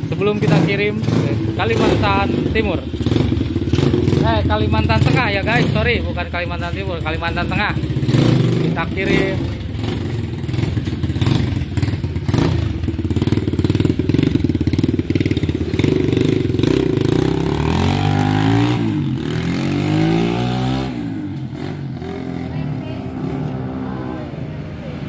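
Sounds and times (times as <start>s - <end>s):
motorbike engine revving: 0.0s - 25.0s.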